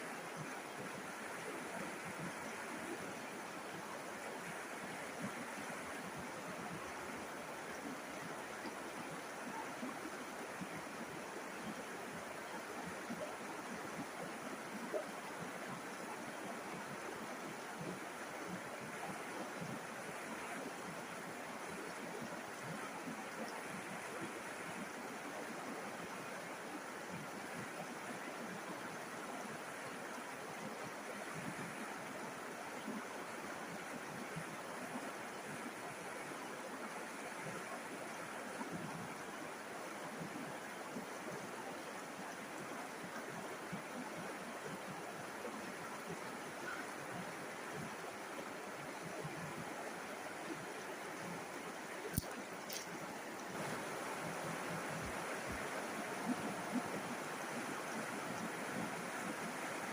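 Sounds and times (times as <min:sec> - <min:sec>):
river water flowing over stones: 0:00.0 - 0:59.9.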